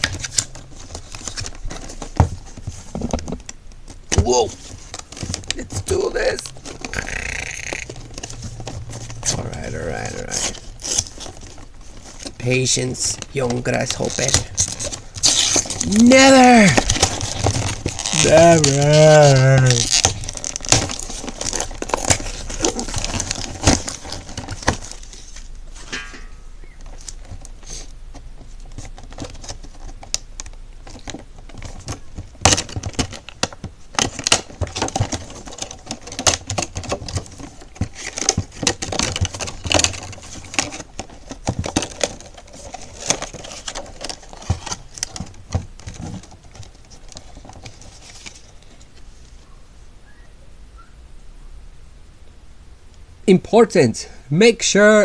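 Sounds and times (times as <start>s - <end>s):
plastic packaging crinkling: 0.0s - 26.0s, 26.6s - 49.0s
paper rustling: 0.0s - 26.2s, 26.8s - 49.4s.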